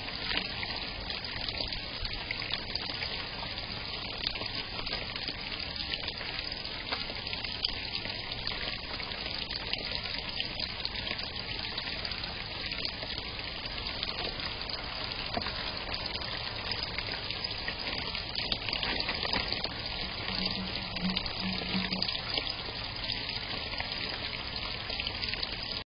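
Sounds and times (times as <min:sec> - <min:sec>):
water trickling in a pond: 0:00.0 - 0:25.8.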